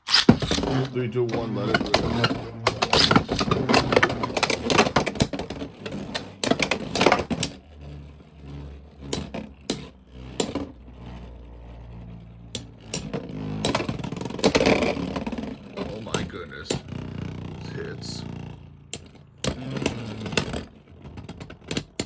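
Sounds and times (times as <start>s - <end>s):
spinning top hum: 0.0s - 22.0s.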